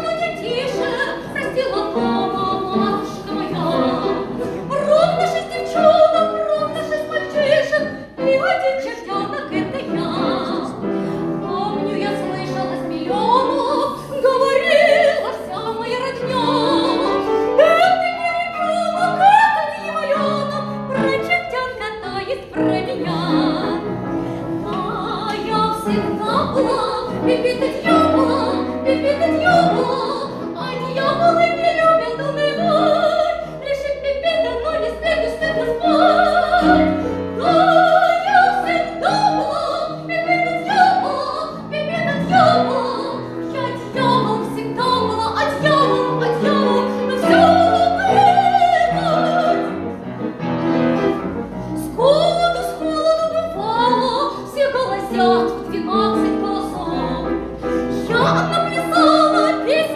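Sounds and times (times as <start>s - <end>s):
woman singing operatically: 0.0s - 24.0s, 24.6s - 49.8s, 51.8s - 59.9s.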